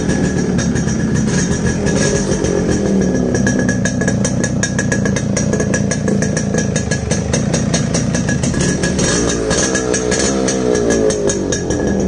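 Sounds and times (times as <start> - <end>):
two-stroke motorcycle engine idling: 0.0 - 12.0.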